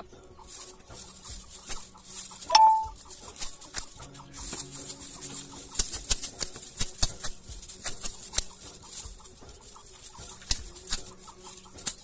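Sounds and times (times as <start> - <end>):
wheat stalks crackling: 0.0 - 12.0.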